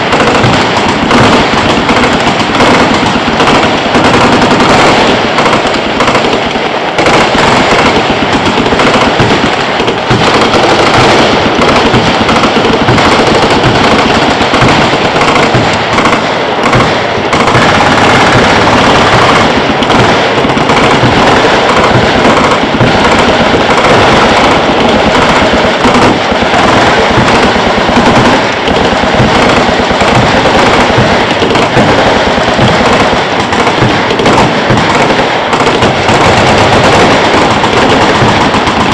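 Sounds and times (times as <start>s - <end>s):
machine gun fire: 0.0s - 38.9s.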